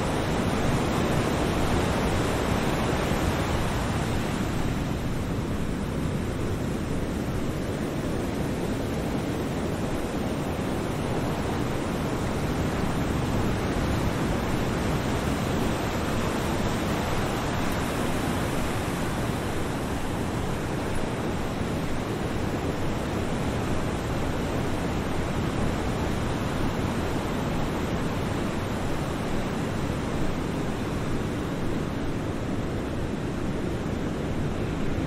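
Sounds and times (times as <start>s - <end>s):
steady rushing noise: 0.0s - 35.0s.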